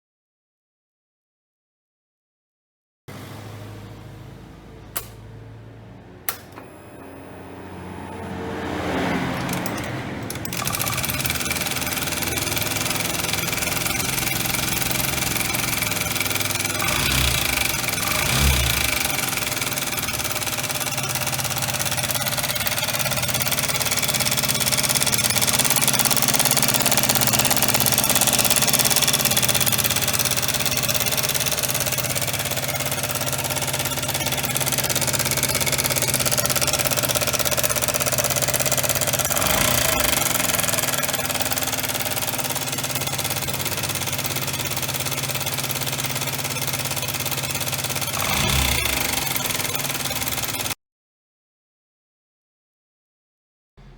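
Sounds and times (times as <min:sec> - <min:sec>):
scooter engine running: 0:03.1 - 0:50.8.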